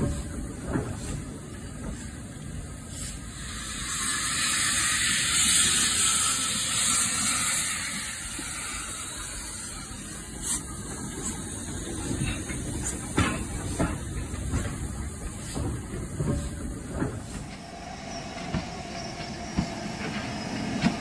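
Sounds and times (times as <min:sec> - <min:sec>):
train rumbling on the track: 0:00.0 - 0:21.0
loud hiss of steam: 0:00.9 - 0:21.0.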